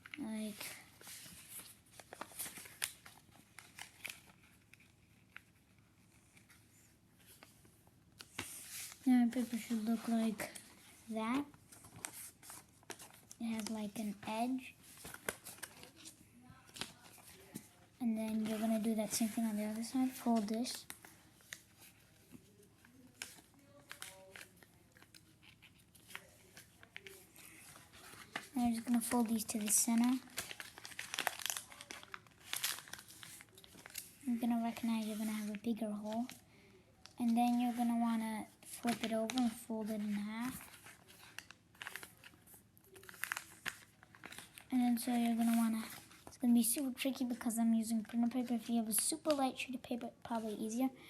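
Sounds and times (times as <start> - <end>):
paper rustling and crackling: 0.0 - 50.8.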